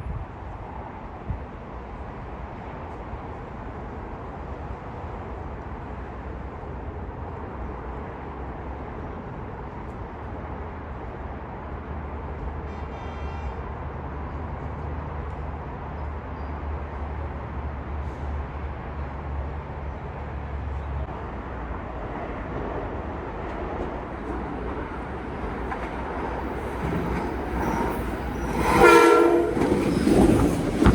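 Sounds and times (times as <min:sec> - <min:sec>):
train rumbling through station: 0:00.0 - 0:30.9.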